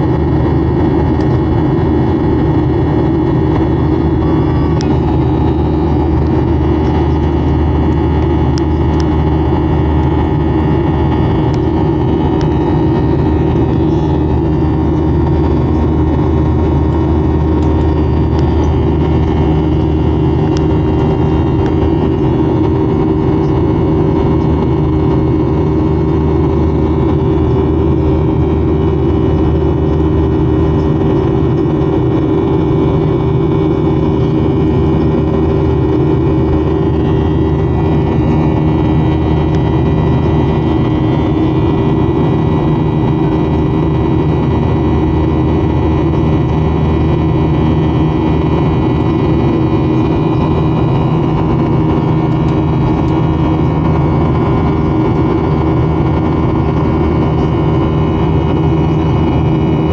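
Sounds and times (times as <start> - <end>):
jet engines droning in cabin: 0.0 - 59.9
low hum: 0.0 - 59.9.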